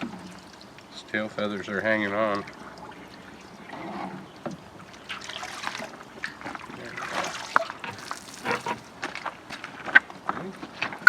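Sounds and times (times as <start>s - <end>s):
water sloshing in a pot: 0.0s - 9.0s.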